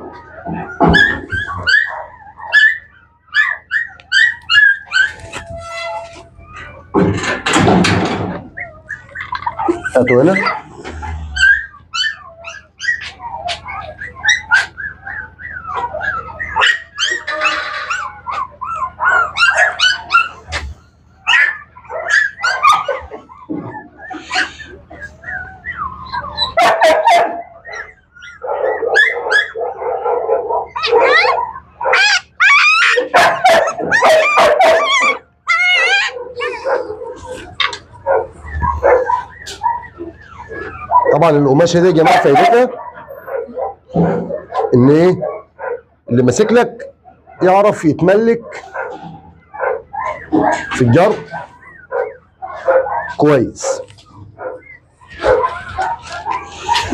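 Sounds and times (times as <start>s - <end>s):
puppies yelping and whining: 0.0s - 56.9s.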